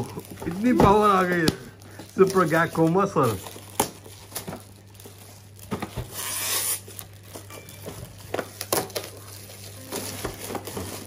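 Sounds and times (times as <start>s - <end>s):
gift wrap tearing and crinkling: 0.0s - 11.0s.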